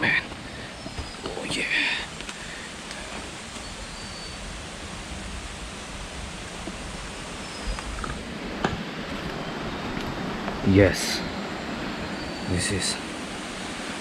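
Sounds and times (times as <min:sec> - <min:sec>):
flowing stream rushing: 0:00.0 - 0:14.0.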